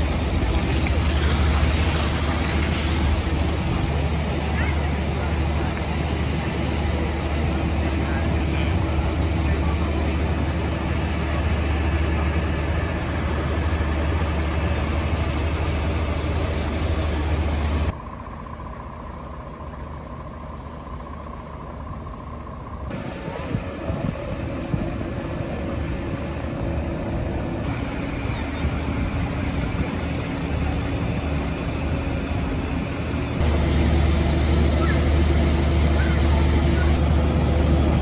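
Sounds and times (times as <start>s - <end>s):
diesel engines rumbling: 0.0s - 38.0s
street ambience: 0.0s - 38.0s.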